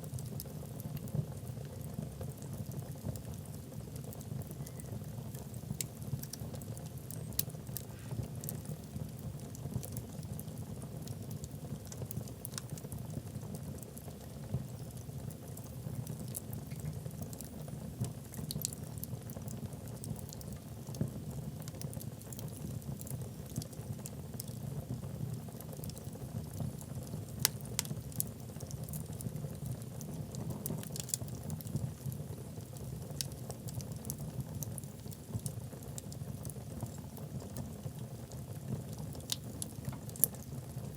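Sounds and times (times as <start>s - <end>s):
logs burning in a fireplace: 0.0s - 40.9s.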